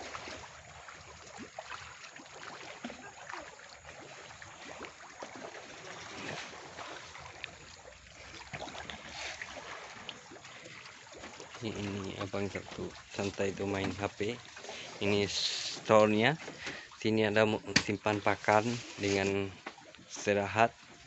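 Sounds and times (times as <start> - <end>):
river water flowing: 0.0 - 21.0
small splashes and ticks: 0.0 - 21.0.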